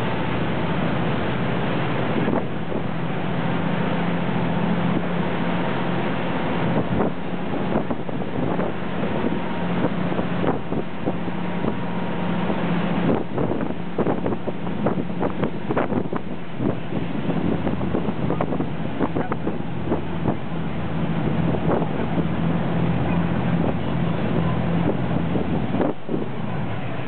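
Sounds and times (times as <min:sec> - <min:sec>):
boat diesel engine running: 0:00.0 - 0:27.0
water and wind rushing: 0:00.0 - 0:27.0.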